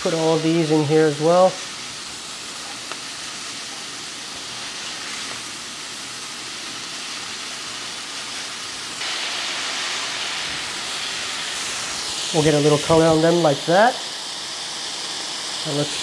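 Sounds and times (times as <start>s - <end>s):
fish sizzling in a frying pan: 0.0s - 16.0s.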